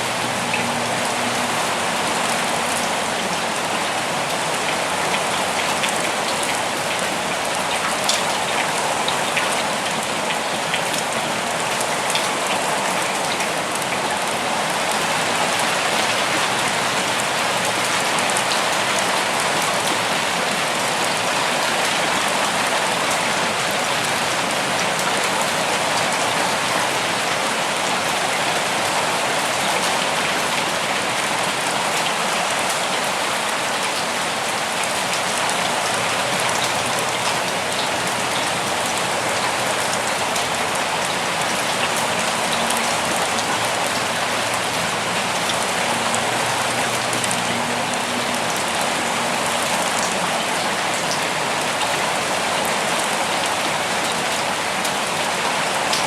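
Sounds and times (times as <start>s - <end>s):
rain falling on forest: 0.0s - 56.0s.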